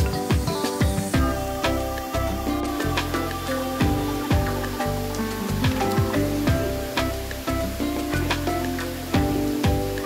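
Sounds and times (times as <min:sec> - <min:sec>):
background music with chords: 0:00.0 - 0:10.0.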